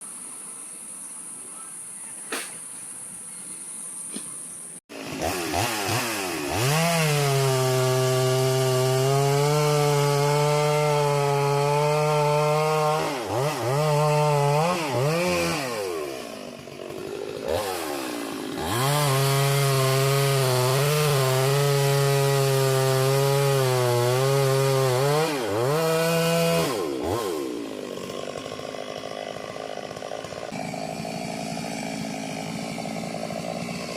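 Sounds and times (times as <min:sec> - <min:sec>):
chainsaw revving and cutting: 0:04.9 - 0:33.9.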